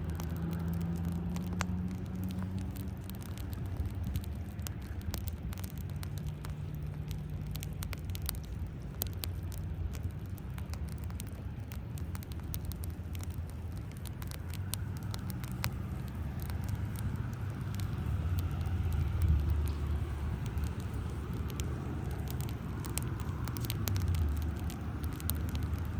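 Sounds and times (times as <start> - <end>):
road traffic rumble: 0.0 - 25.9
wood fire crackling and popping: 0.0 - 25.9.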